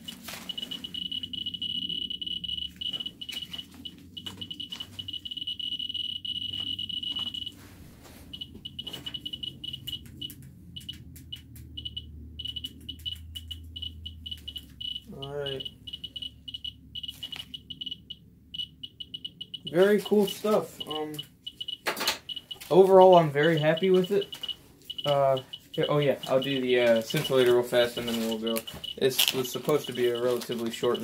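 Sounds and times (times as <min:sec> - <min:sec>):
geiger counter clicking: 0:00.0 - 0:07.6, 0:08.3 - 0:31.0.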